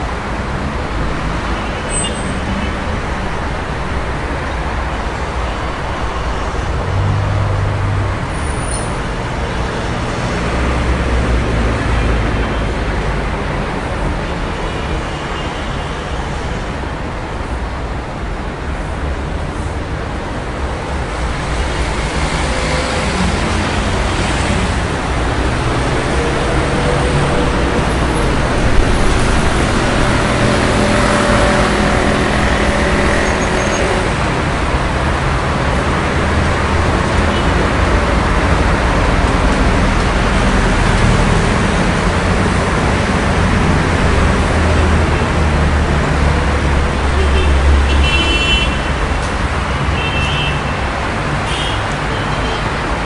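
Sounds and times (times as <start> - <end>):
dense street traffic: 0.0 - 53.0.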